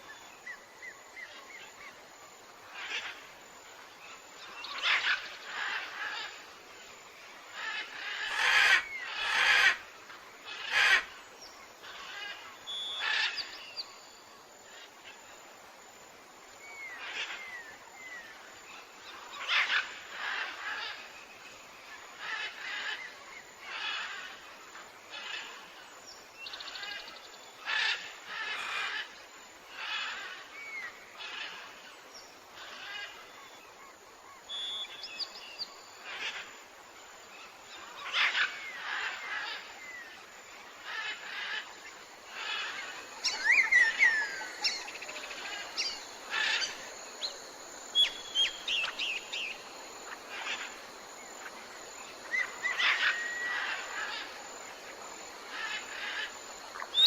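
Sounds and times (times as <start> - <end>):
bird chorus: 0.0 - 6.6, 7.2 - 15.2, 16.6 - 57.0.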